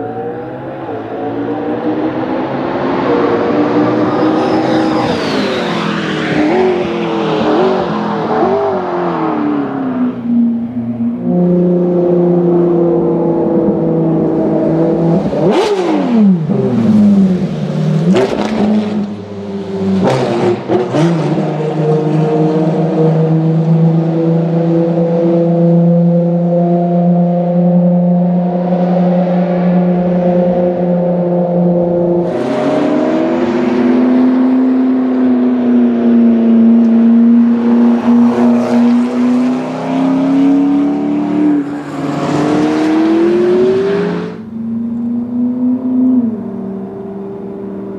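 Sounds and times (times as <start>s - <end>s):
cars passing by: 0.0s - 47.9s
race car engines running: 0.0s - 47.9s.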